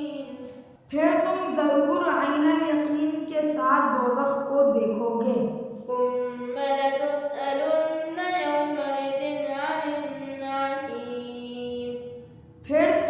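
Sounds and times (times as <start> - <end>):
young voice chanting melodically: 0.0 - 13.0.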